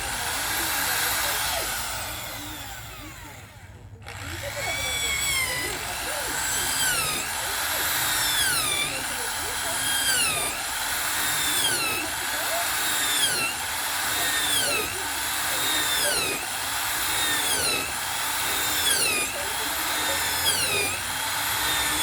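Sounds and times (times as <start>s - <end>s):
power tool motor whining: 0.0s - 22.0s.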